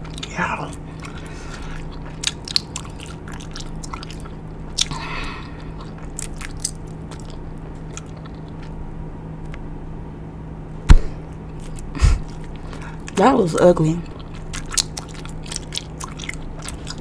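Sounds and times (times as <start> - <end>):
gum chewing and smacking: 0.0 - 8.8, 11.3 - 13.3, 14.0 - 17.0.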